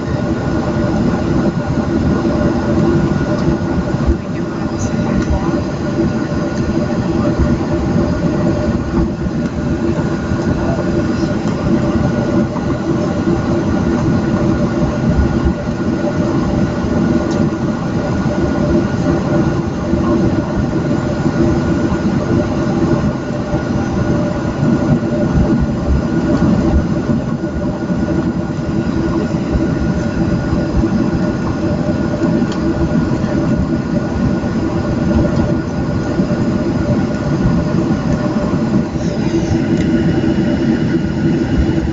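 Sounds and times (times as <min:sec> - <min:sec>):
jet engines humming: 0:00.0 - 0:41.9
wheels rumbling on taxiway: 0:00.0 - 0:41.9.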